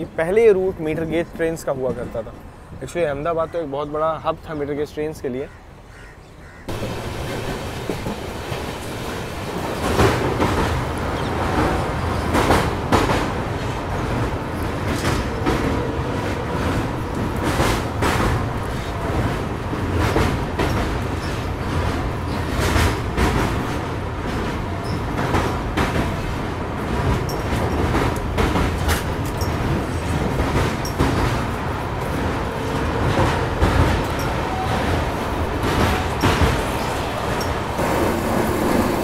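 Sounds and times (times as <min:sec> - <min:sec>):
train coaches rumbling: 0:00.0 - 0:39.0
wheels clacking over rail joints: 0:06.7 - 0:39.0.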